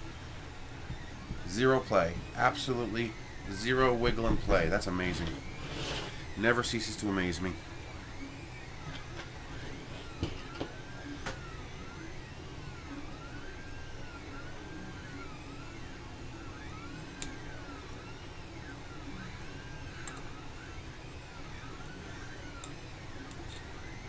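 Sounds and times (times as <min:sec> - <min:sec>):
stepper motors whining: 0:00.0 - 0:24.0.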